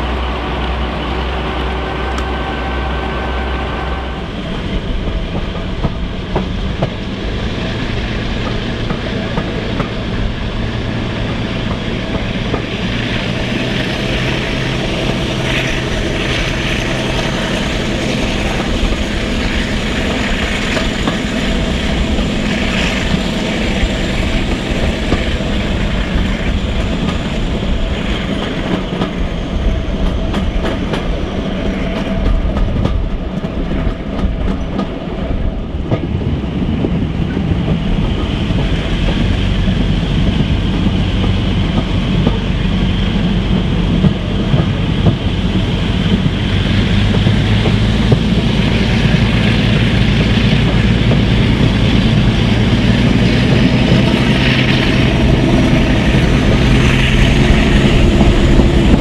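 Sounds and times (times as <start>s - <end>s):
diesel engine drone: 0.0s - 33.4s, 34.9s - 59.0s
wheels rumbling on track: 0.0s - 59.0s.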